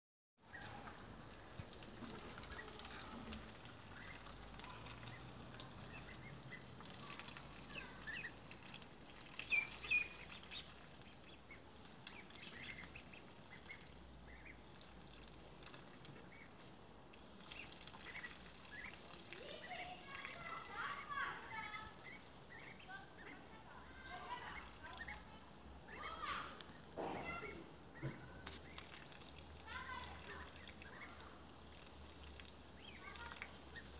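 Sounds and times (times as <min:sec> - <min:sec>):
ducklings peeping: 0:00.5 - 0:16.7, 0:17.3 - 0:33.9.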